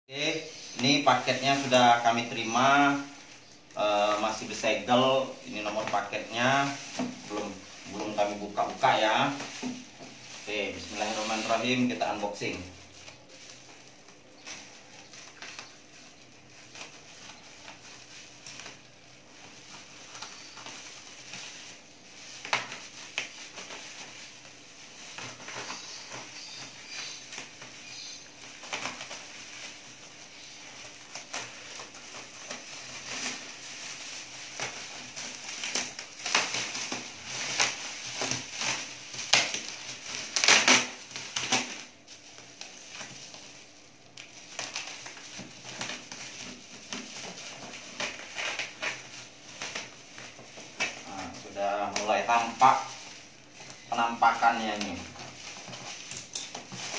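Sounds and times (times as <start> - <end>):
packaging crinkling and rustling: 0.1 - 56.9.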